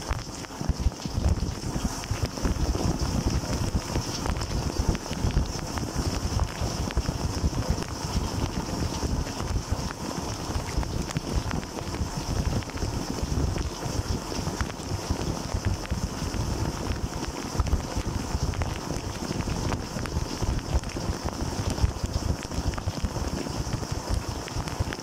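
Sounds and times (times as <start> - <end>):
dishwasher water jets splashing: 0.0 - 25.0.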